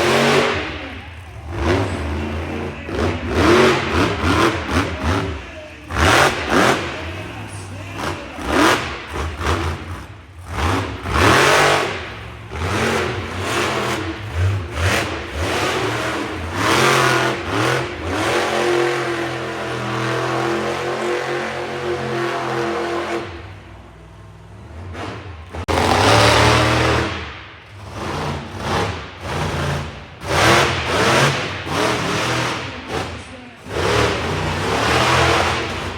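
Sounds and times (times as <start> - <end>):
monster truck engine revving: 0.0 - 35.9.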